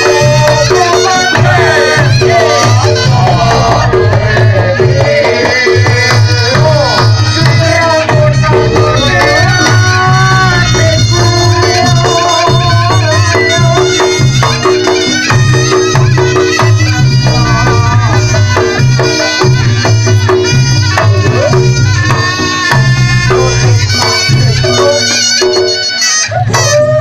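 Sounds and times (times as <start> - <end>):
shrill reed horn melody: 0.0 - 5.2, 6.0 - 27.0
drums: 0.0 - 27.0.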